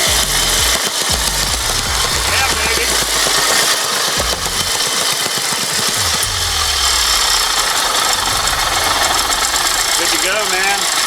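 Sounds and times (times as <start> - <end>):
two-stroke tamper engine rattling: 0.0 - 11.0.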